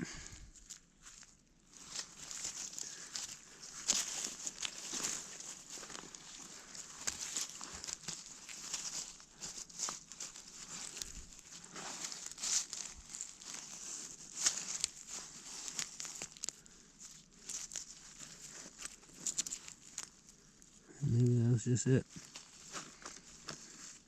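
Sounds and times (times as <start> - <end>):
hands scraping soil and leaves: 0.5 - 20.8, 22.0 - 24.0.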